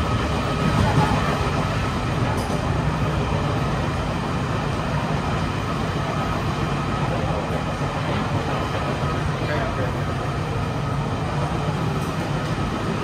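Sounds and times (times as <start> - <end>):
train carriage rumble and hiss: 0.0 - 13.0.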